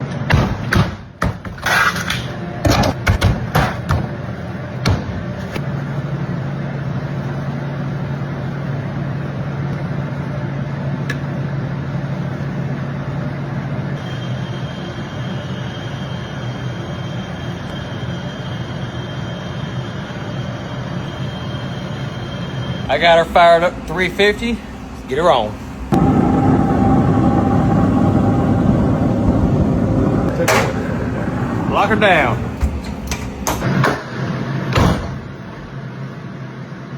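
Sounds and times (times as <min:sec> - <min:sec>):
grill whooshing hum: 0:04.1 - 0:36.9.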